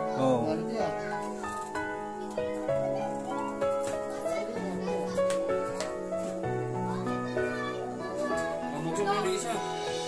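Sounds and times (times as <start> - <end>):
slow background music: 0.0 - 10.0.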